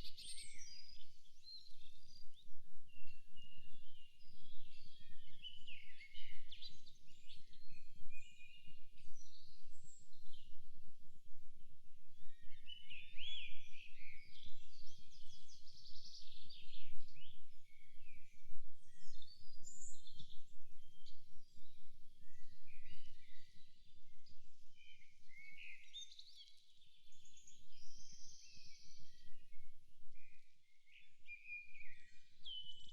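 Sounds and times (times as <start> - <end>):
songbirds singing: 0.0 - 11.2, 12.1 - 32.9.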